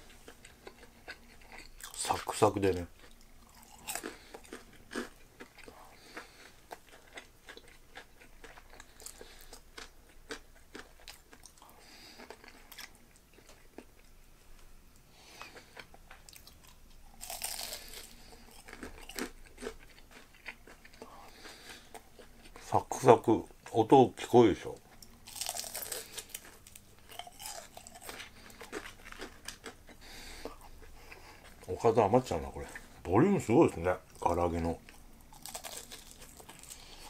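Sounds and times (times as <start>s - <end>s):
crunching of fried chicken: 0.0s - 14.1s, 15.3s - 23.1s, 24.6s - 32.8s, 33.5s - 37.0s.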